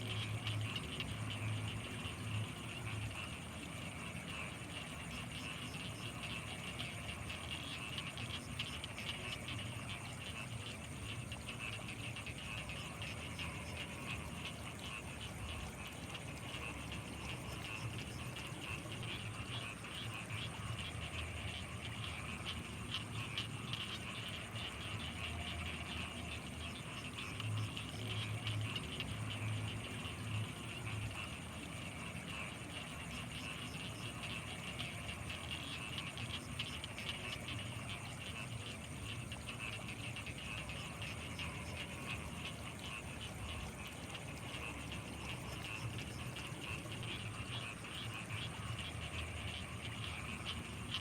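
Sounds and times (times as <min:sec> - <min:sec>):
frogs trilling: 0:00.0 - 0:51.0
high-pitched insect whine: 0:00.0 - 0:51.0.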